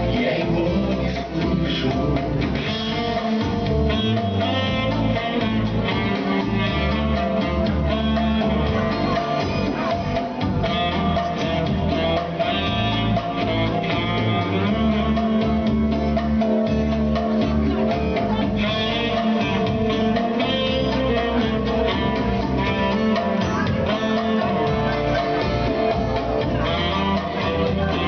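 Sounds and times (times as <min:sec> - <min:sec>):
bass line: 0:00.0 - 0:28.0
guitar: 0:00.0 - 0:28.0.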